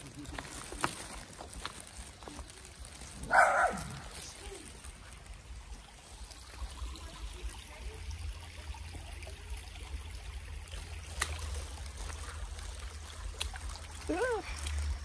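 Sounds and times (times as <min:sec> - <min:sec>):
small stream trickling: 0:00.0 - 0:15.0.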